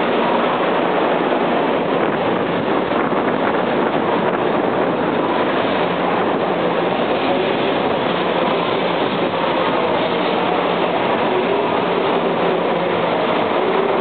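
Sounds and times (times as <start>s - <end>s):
high-speed train running: 0.0s - 14.0s.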